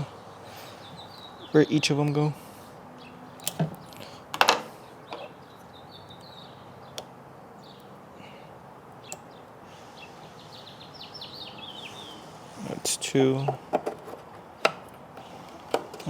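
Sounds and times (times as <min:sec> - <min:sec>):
birds chirping: 0:00.0 - 0:16.0
outdoor noise: 0:00.0 - 0:16.0.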